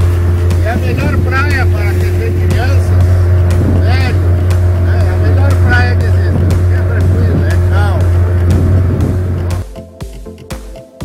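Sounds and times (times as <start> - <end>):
boat engine humming: 0.0 - 11.0
electronic music with beat: 0.0 - 11.0.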